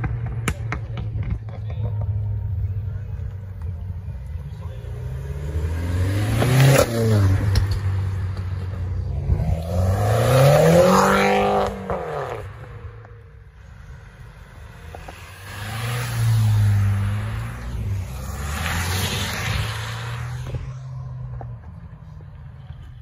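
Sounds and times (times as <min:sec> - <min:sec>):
car engines revving away: 0:00.0 - 0:23.0.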